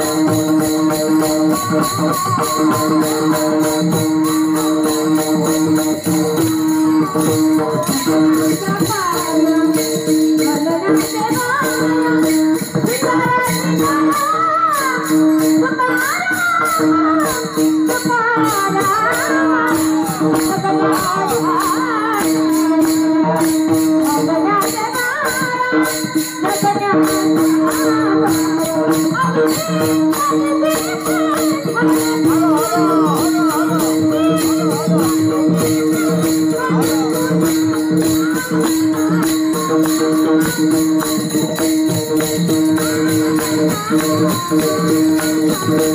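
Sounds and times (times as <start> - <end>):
hand cymbals beating: 0.0 - 45.9
women singing devotional melody: 0.0 - 45.9.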